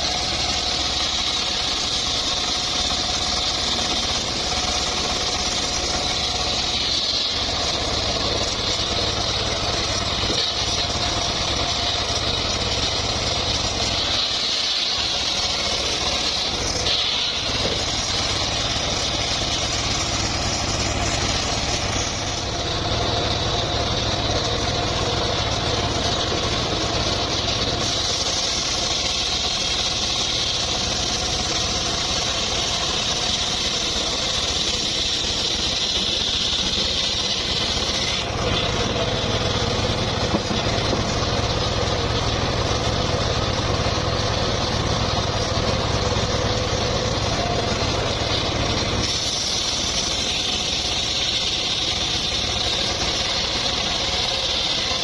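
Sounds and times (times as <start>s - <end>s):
wood-sawing machinery running: 0.0s - 55.0s.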